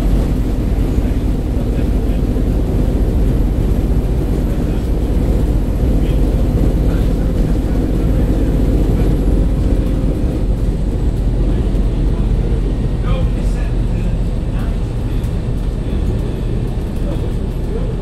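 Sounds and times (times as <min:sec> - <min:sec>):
bus engine rumble: 0:00.0 - 0:18.0.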